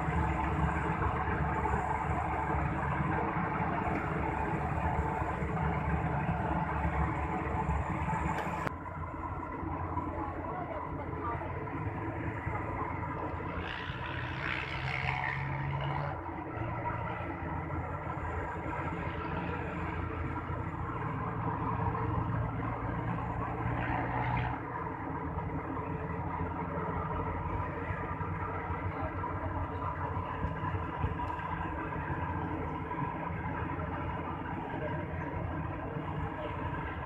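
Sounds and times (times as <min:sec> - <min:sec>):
combine harvester engine running: 0:00.0 - 0:37.0.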